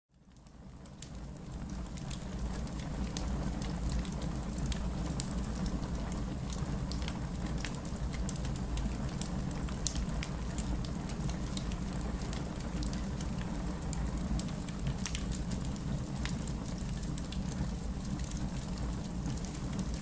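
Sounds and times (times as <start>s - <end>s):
low rumble of flames: 0.2s - 20.0s
wood fire crackling: 0.2s - 20.0s.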